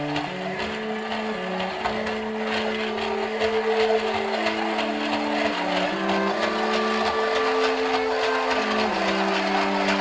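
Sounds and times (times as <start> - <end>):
rhythmic steam train chugging: 0.0 - 10.0
slow tune of held notes: 0.0 - 10.0.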